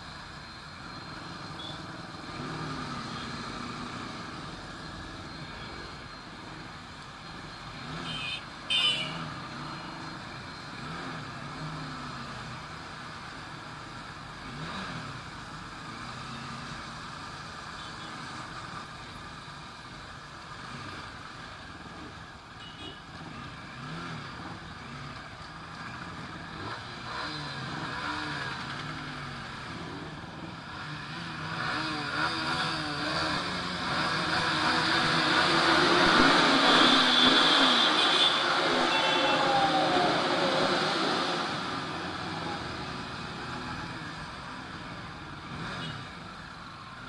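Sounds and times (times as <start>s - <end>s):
wind and road noise: 0.0s - 47.0s
motorcycle engines revving: 0.2s - 47.0s.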